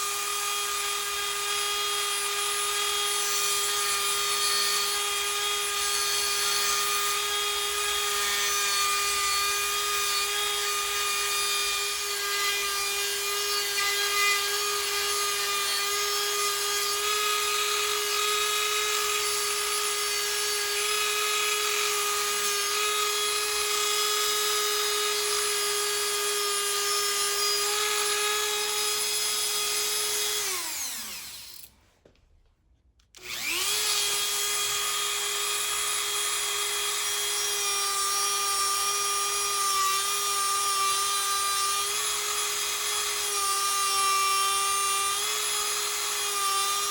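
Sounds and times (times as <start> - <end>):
rotary tool whining: 0.0 - 31.8, 33.1 - 46.9.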